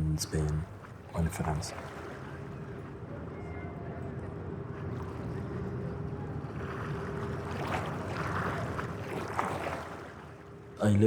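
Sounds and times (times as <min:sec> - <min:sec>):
faint steady hum: 0:00.0 - 0:11.0
low rumbling ambient noise: 0:00.0 - 0:11.0.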